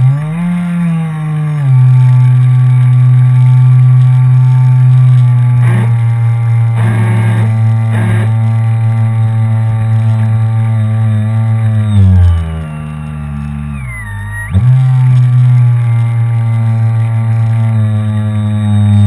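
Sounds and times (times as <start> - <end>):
model boat motor humming: 0.0 - 19.0
short noisy bursts: 1.7 - 19.0.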